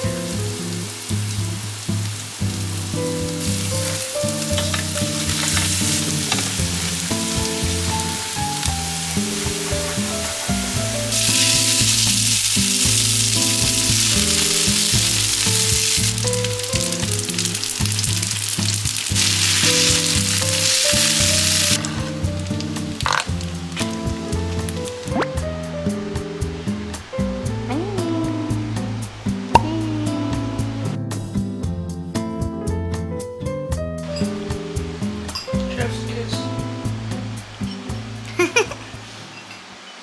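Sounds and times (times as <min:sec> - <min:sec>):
food sizzling in a pan: 0:00.0 - 0:30.9, 0:34.0 - 0:40.0
background music melody: 0:00.0 - 0:39.1.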